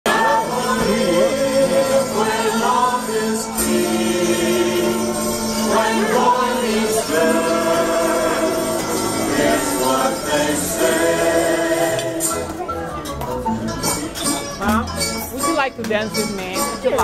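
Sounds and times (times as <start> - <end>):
music with singing voices: 0.1 - 17.0.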